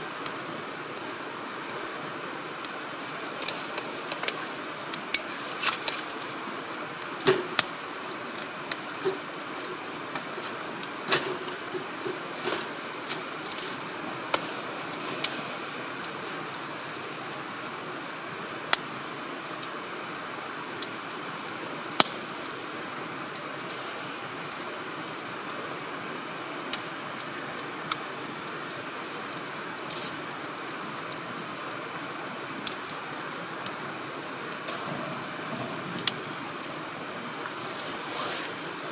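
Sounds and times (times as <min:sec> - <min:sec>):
burning logs crackling and popping: 0:00.0 - 0:38.9
wood fire hissing: 0:00.0 - 0:38.9.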